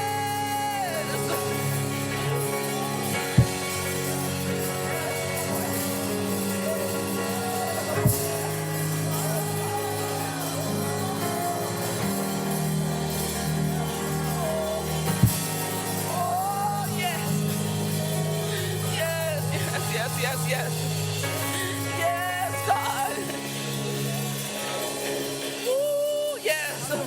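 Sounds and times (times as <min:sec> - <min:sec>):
drum or cymbal hits: 0:00.0 - 0:27.0
slow worship band music: 0:00.0 - 0:27.0
soft wordless vocal: 0:00.0 - 0:27.0.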